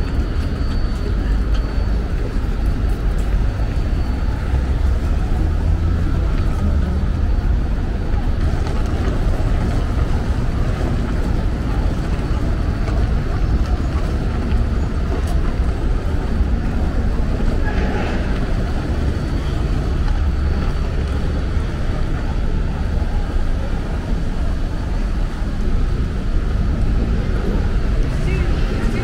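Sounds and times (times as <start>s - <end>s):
city road traffic rumble: 0.0s - 29.0s.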